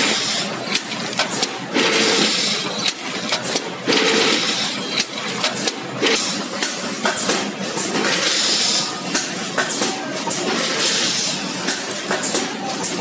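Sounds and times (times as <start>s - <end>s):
packing machine clattering: 0.0s - 13.0s.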